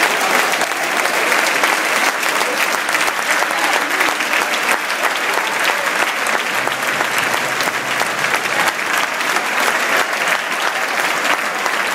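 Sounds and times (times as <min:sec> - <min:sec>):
stadium crowd applauding: 0:00.0 - 0:11.9.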